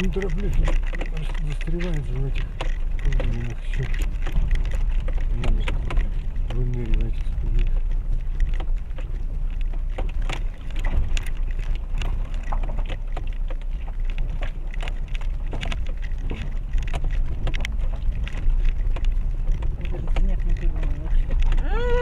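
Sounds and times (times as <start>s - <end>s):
car engine and tyres rumbling: 0.0s - 22.0s
stones and suspension clattering: 0.0s - 22.0s.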